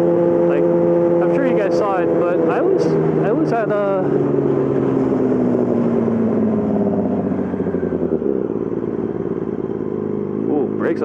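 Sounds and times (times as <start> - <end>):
motorcycle engine slowing: 0.0 - 11.0.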